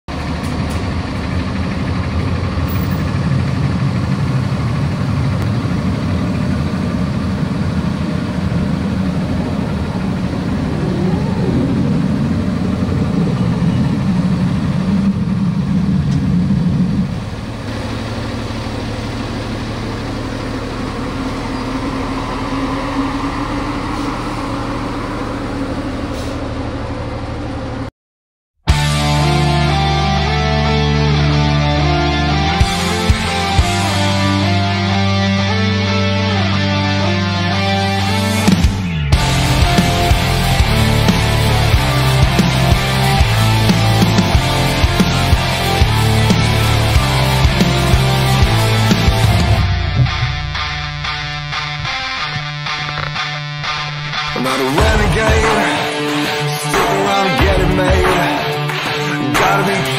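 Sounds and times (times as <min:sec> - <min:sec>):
diesel engine idling: 0:00.1 - 0:27.9, 0:28.9 - 0:59.9.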